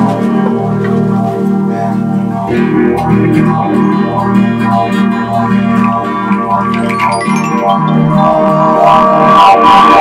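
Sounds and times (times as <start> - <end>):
plucked guitar: 0.0 - 10.0.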